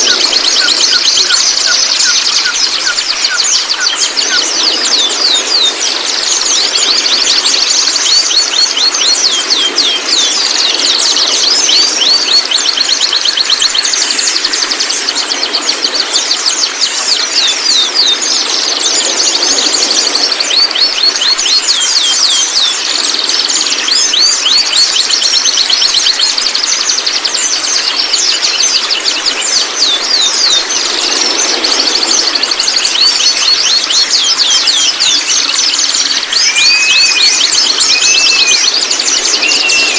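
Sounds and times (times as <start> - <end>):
bird chatter calls: 0.0 - 39.9.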